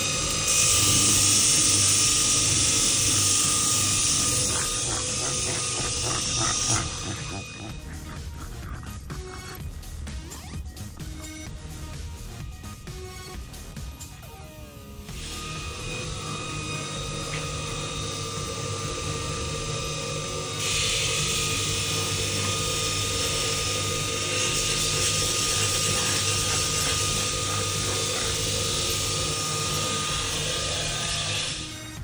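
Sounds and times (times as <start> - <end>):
belt grinder motor hum: 0.0 - 9.6, 15.1 - 32.0
metal grinding hiss: 0.0 - 10.0, 15.1 - 32.0.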